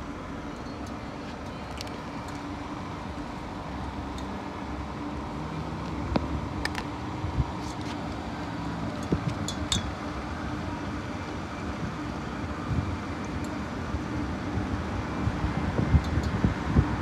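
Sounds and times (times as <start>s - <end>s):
low outdoor rumble and hum: 0.0s - 17.0s.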